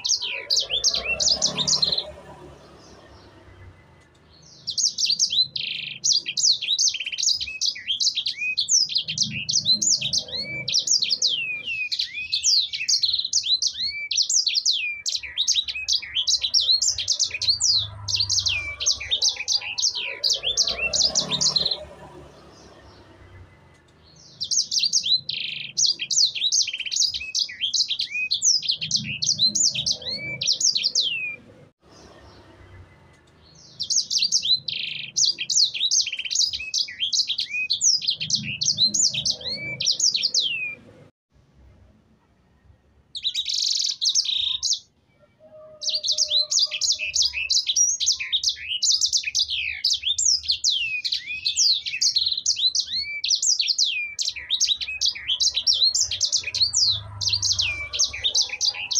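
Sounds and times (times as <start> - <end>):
songbird chirps and trills: 0.0 - 41.1, 42.2 - 58.9.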